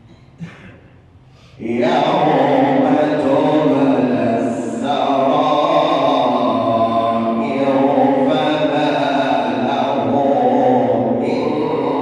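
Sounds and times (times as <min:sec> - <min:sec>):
man chanting melodic recitation: 0:01.6 - 0:12.0.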